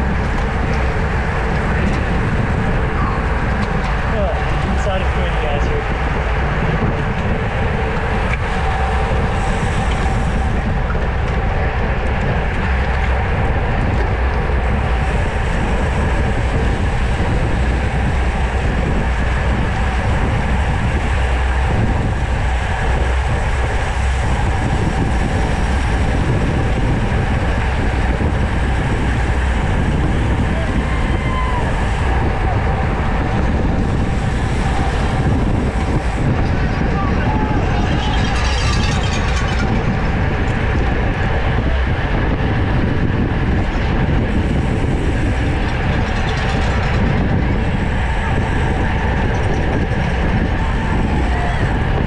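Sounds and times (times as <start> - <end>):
wind rushing over microphone: 0.0 - 52.0.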